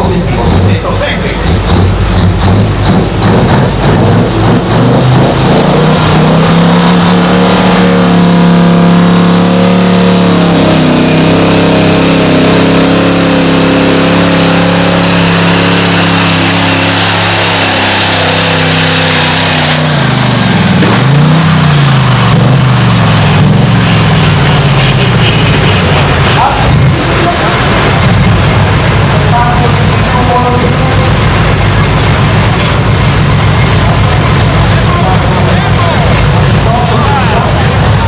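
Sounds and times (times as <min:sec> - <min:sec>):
tractor engine droning: 0:00.0 - 0:38.0.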